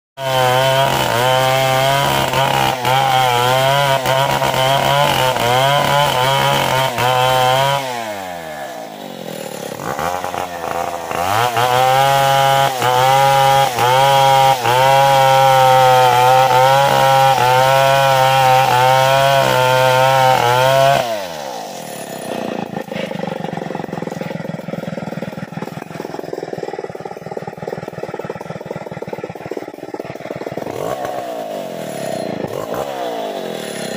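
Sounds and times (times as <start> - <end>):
chainsaw cutting tree trunk: 0.2 - 33.9.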